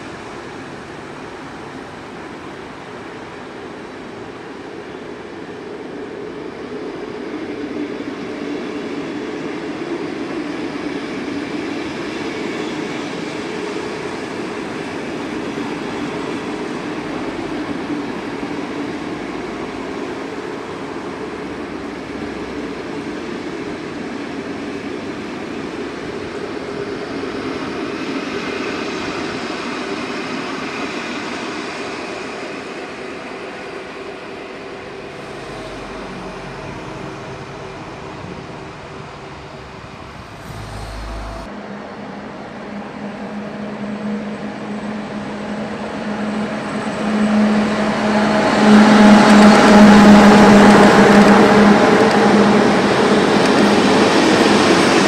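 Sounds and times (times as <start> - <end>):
train wheels rumbling on track: 0.0 - 41.7, 42.4 - 55.0.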